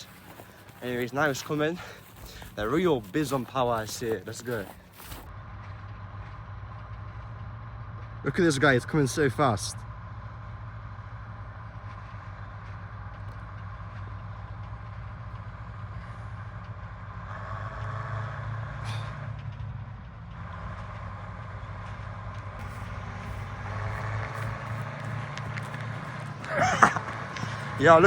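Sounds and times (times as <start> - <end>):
combine harvester diesel engine: 0.0 - 28.0.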